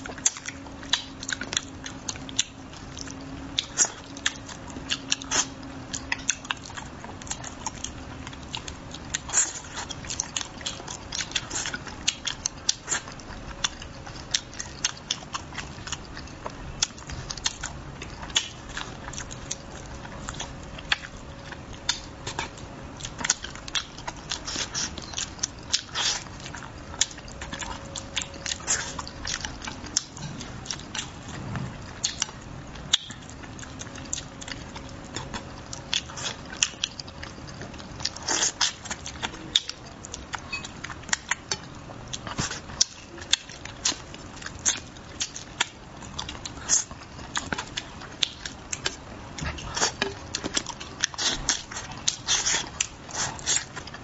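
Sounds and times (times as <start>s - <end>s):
man chewing food: 0.0s - 54.0s.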